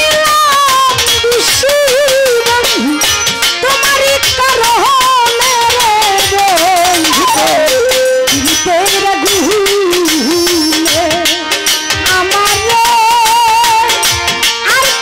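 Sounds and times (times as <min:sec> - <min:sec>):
woman singing into microphone: 0:00.0 - 0:15.0
sustained instrumental notes: 0:01.0 - 0:15.0.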